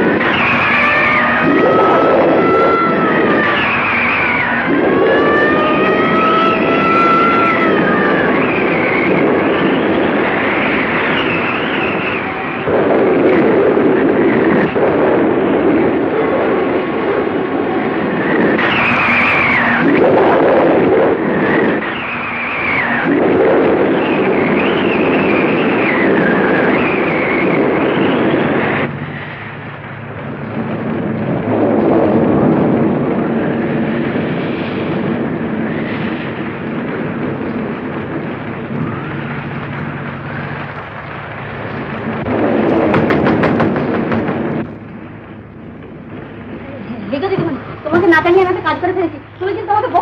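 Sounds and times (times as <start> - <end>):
thunder rumbling: 0.0 - 50.0.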